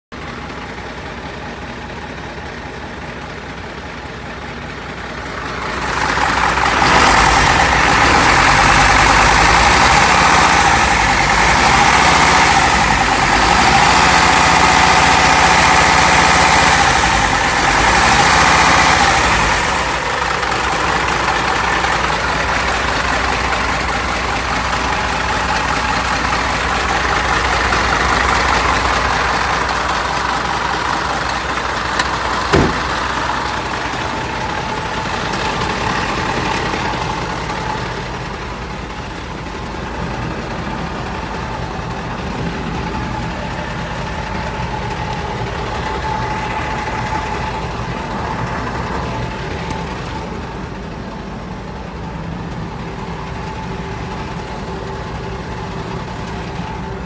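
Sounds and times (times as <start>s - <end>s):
diesel engine idling: 0.1s - 57.0s.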